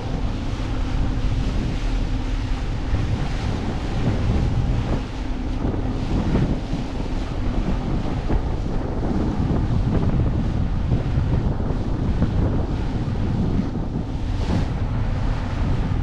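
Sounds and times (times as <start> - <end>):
boat motor running: 0.0 - 16.0
water splashing against hull: 0.0 - 16.0
wind buffeting microphone: 0.0 - 16.0.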